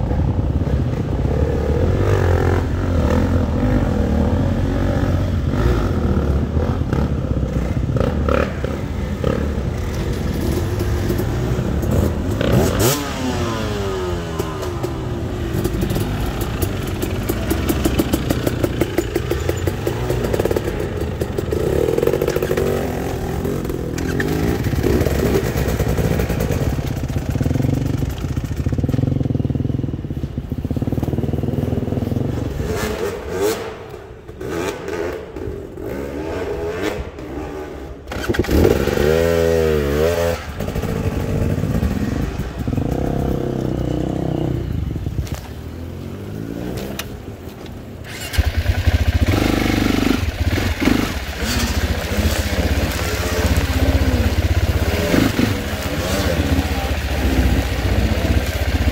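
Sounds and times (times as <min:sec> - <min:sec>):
dirt bike engines running: 0:00.0 - 0:58.9.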